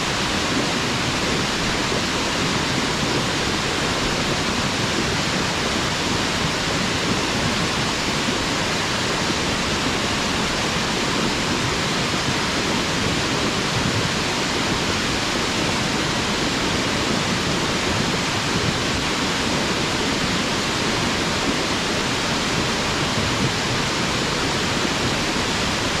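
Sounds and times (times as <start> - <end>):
waterfall rushing into pool: 0.0 - 26.0.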